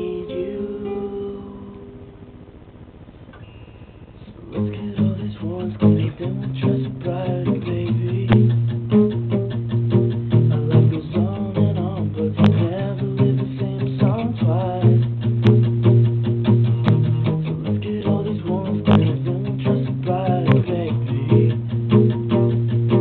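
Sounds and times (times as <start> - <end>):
classical guitar played fast: 4.5 - 23.0.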